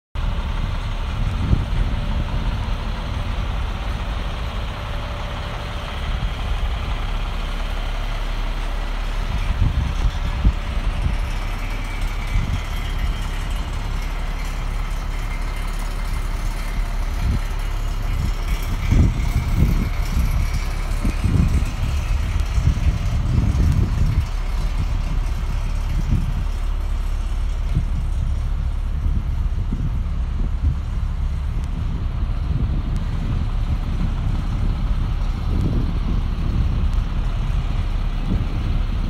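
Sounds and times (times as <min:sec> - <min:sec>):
diesel truck idling: 0:00.2 - 0:39.0
wind buffeting microphone: 0:00.2 - 0:39.0.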